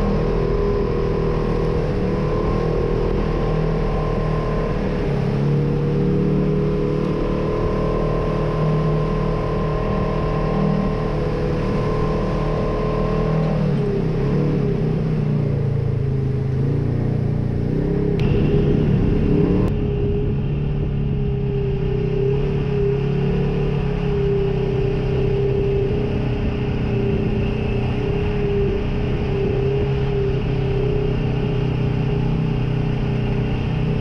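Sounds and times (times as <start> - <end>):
engine running from inside cab: 0.0 - 34.0.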